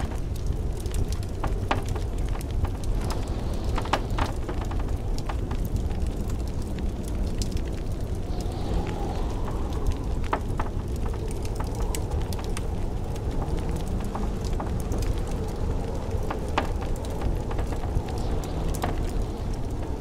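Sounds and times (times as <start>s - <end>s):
howling blizzard wind: 0.0s - 20.0s
wood fire crackling: 0.0s - 20.0s.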